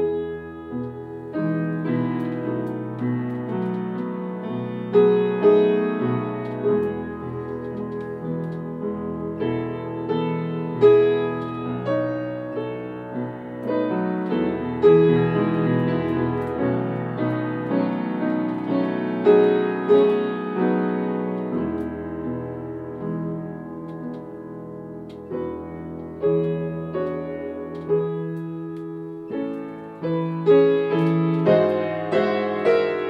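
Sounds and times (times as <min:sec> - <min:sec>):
upright piano playing: 0:00.0 - 0:33.0.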